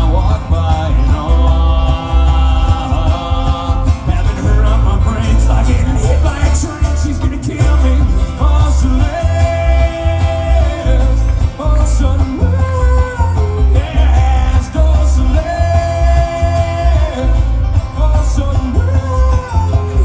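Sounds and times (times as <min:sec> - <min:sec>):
bluegrass string band playing: 0:00.0 - 0:20.0
heavy upright bass: 0:00.0 - 0:20.0
person singing: 0:00.0 - 0:20.0.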